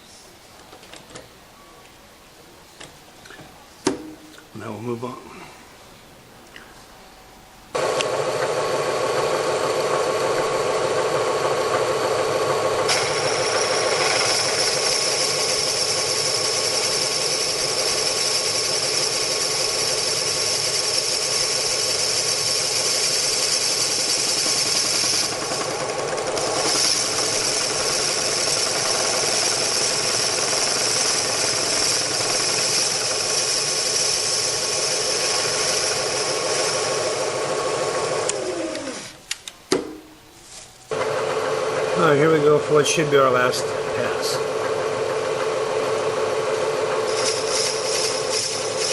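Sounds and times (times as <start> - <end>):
machine tool running: 7.8 - 39.2, 40.9 - 48.9.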